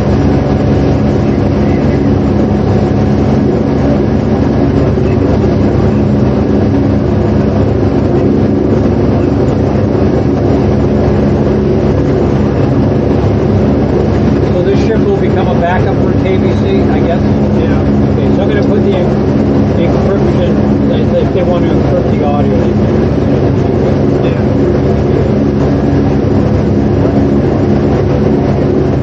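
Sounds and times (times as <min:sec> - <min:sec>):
loud mechanical drone: 0:00.0 - 0:29.0.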